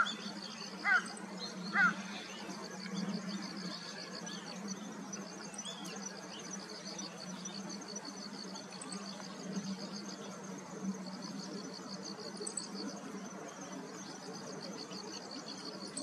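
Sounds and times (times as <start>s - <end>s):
insects pulsing trill: 0.0s - 16.0s.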